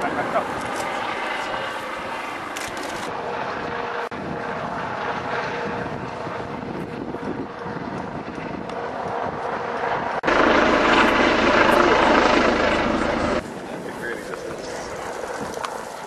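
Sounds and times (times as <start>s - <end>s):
helicopter droning overhead: 0.0s - 16.0s.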